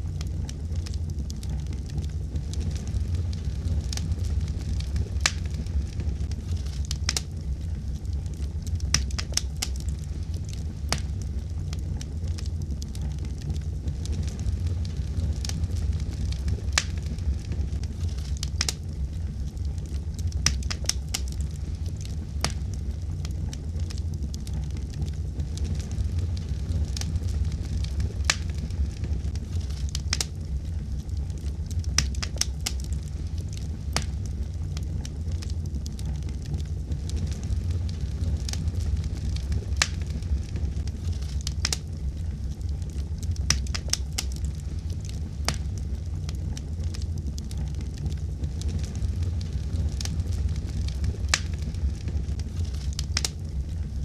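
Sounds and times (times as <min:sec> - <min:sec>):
fire crackles and pops: 0:00.0 - 0:54.0
wood fire burning: 0:00.0 - 0:54.0.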